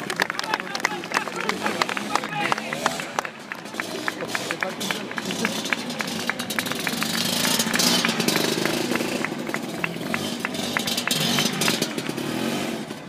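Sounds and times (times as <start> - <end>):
motor scooter engine revving: 1.4 - 13.0.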